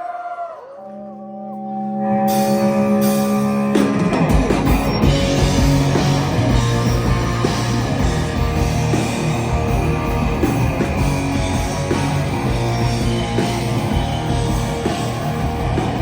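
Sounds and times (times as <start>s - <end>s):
drums: 2.2s - 16.0s
rock band playing: 2.2s - 16.0s.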